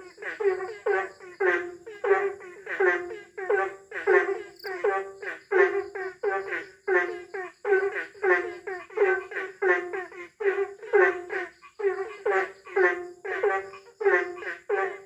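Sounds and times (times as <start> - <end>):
toads croaking in chorus: 0.0 - 15.0.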